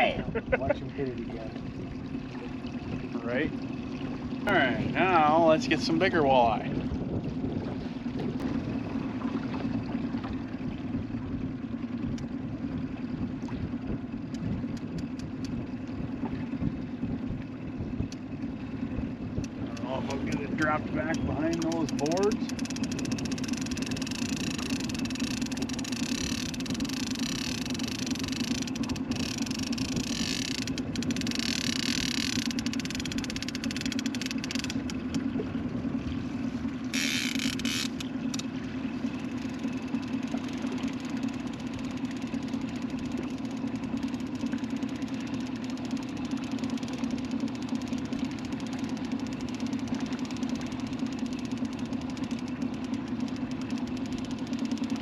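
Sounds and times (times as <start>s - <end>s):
boat motor droning: 0.0s - 55.0s.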